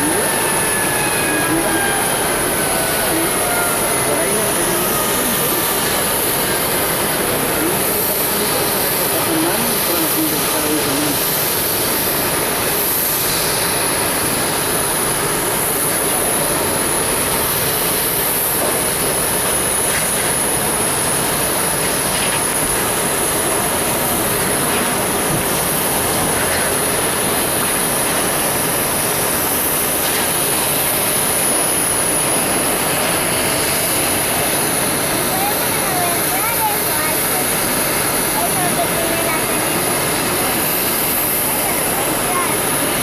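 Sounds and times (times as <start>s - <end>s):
jet engines running with whine: 0.0s - 43.0s.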